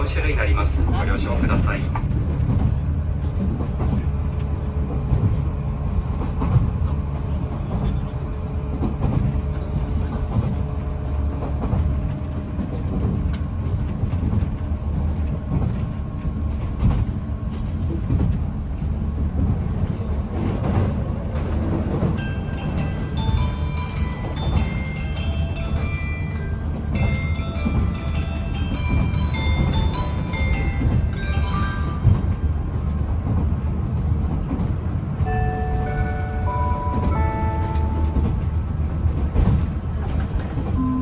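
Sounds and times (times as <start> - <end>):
train car running rumble: 0.0 - 41.0.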